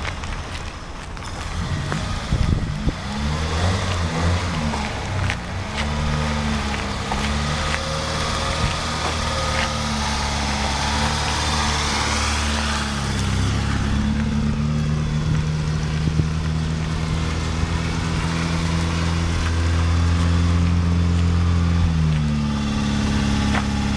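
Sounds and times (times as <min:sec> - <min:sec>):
car engine idling: 0:00.0 - 0:23.9.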